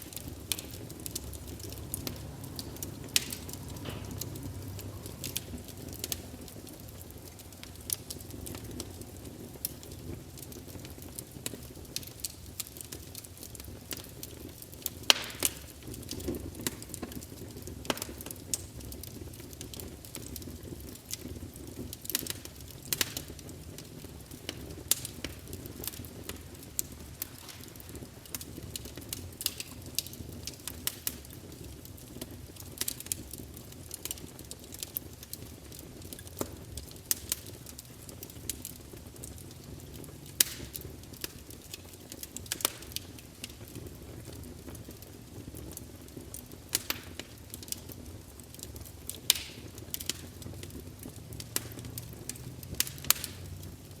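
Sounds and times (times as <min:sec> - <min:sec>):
low rush of flame: 0:00.0 - 0:33.6, 0:34.8 - 0:54.0
burning wood crackling and popping: 0:00.0 - 0:54.0.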